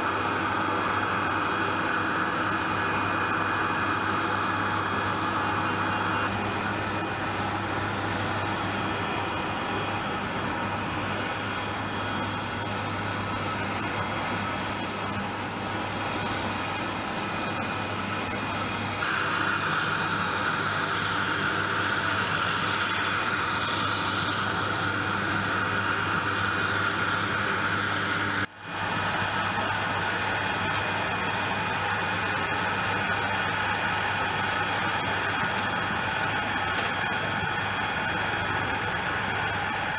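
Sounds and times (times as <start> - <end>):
jet turbine rush: 0.0 - 39.9
jet turbine whine: 0.0 - 39.9.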